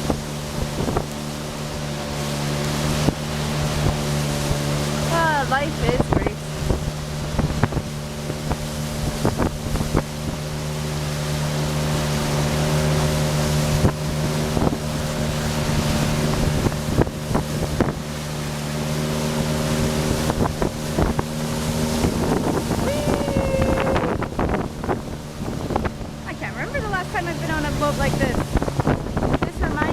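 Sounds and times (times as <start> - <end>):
rushing wind: 0.0 - 29.9
speedboat engine: 0.0 - 29.9
water rushing: 0.0 - 29.9.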